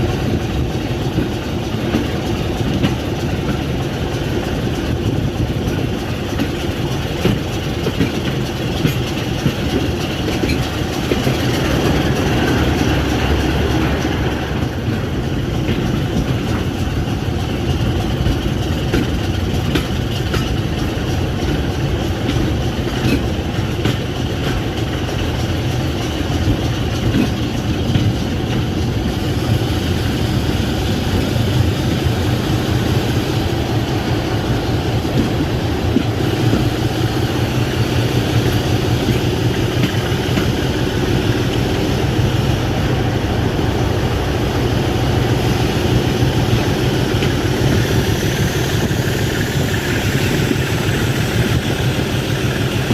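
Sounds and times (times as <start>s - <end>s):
train rumbling on rails: 0.0s - 52.9s.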